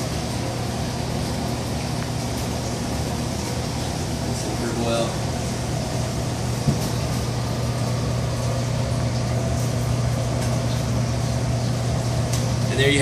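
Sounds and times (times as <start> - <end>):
kitchen machinery humming: 0.0 - 13.0.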